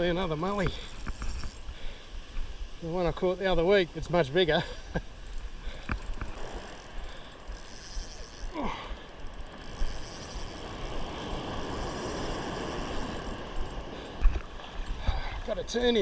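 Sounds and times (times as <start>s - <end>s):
fishing reel ratcheting whir: 0.2s - 1.9s, 4.0s - 16.0s.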